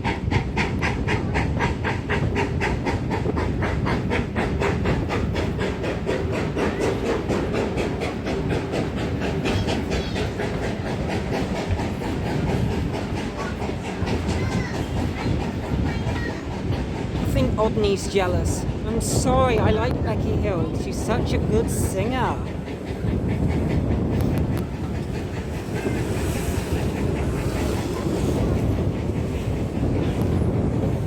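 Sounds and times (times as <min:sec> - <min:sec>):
steam locomotive exhaust chuffing: 0:00.0 - 0:31.0
train rumbling on rails: 0:00.0 - 0:31.0.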